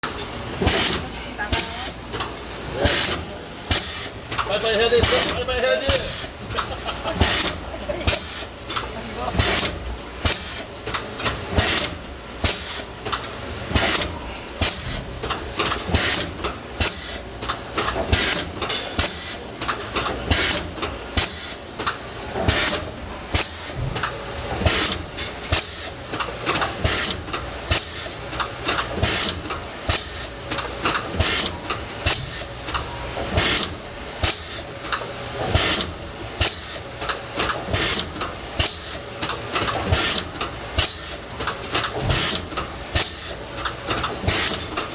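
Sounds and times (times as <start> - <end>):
machine clacks and knocks: 0.0 - 44.9
shrink-wrapping machine running: 0.0 - 44.9.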